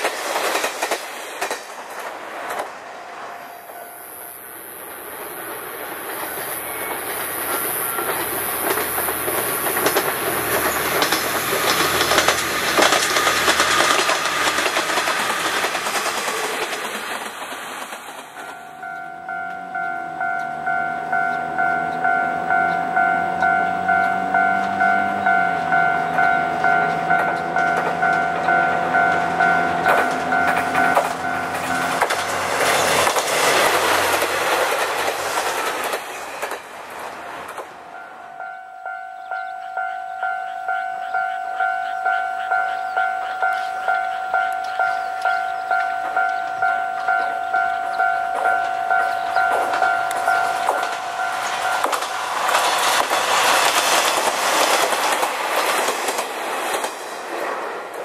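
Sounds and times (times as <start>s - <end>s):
diesel railcar engine: 0.0s - 58.0s
train wheel noise: 0.0s - 58.0s
level-crossing warning bell ringing: 3.3s - 16.1s, 18.3s - 35.7s, 37.9s - 55.0s.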